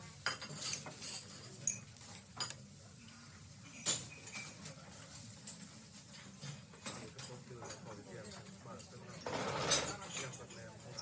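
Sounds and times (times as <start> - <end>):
dishes and cutlery clinking: 0.0 - 11.0.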